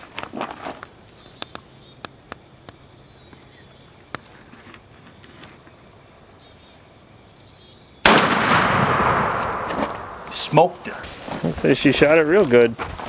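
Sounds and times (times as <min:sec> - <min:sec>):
songbirds chirping and trilling: 0:00.0 - 0:08.2, 0:09.0 - 0:12.8.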